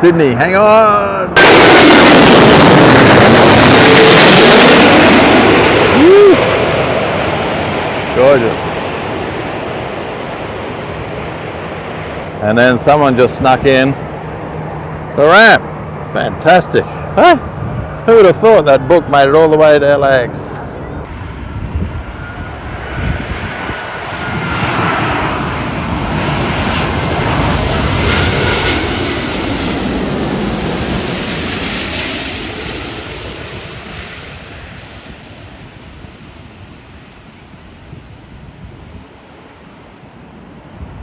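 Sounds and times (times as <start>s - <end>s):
jet airliner passing overhead: 0.0s - 41.0s.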